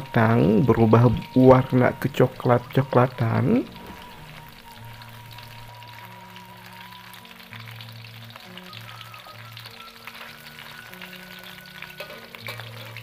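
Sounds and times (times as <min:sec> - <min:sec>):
fish sizzling in hot oil: 0:00.0 - 0:13.0
soft background music: 0:00.0 - 0:13.0.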